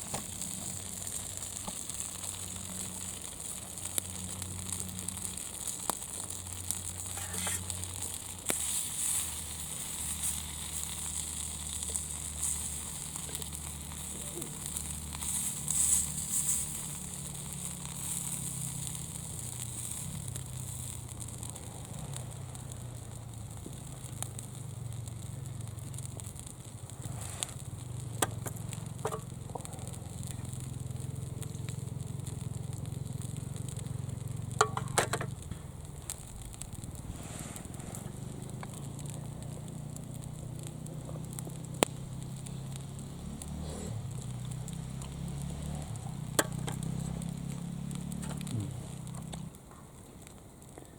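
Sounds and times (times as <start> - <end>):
sharp pops of fire: 0.0 - 50.9
wood fire crackling: 0.0 - 50.9.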